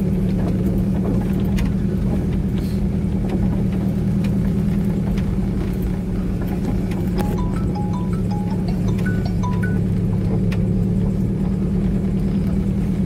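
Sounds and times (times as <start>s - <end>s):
truck engine droning: 0.0s - 13.0s.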